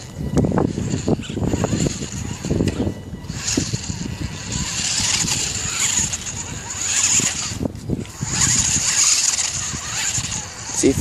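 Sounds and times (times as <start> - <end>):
rc truck motor whining: 0.0 - 11.0.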